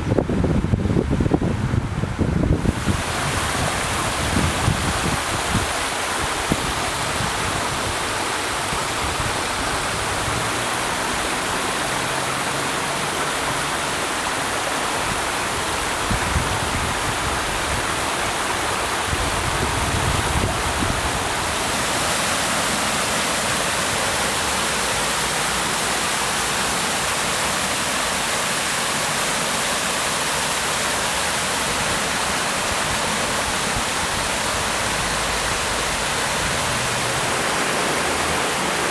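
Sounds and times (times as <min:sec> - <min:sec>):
water rushing down a waterfall: 0:00.0 - 0:38.9.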